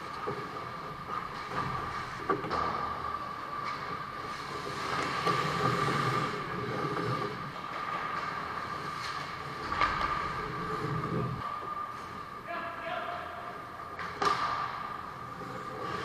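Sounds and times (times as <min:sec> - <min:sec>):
hockey sticks clacking: 0:00.0 - 0:16.0
skates scraping on ice: 0:00.0 - 0:16.0.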